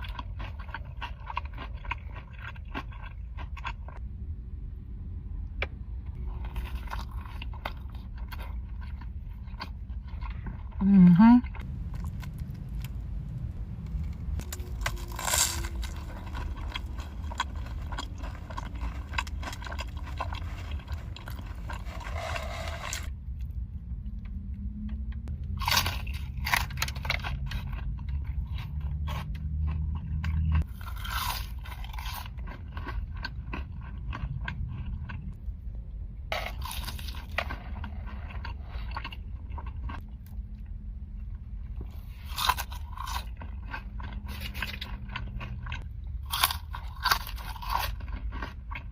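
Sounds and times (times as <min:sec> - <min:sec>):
crunching and chewing: 0:00.0 - 0:04.0, 0:06.0 - 0:10.8, 0:11.4 - 0:13.0, 0:13.8 - 0:35.7, 0:36.3 - 0:48.9
low steady hum: 0:00.0 - 0:48.9.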